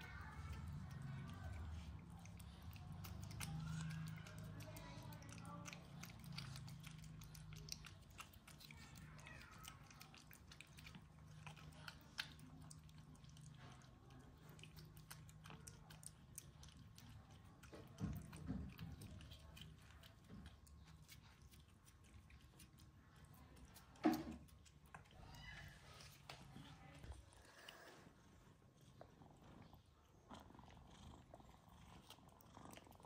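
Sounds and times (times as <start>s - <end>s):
cats licking wet clicks: 0.0s - 33.0s.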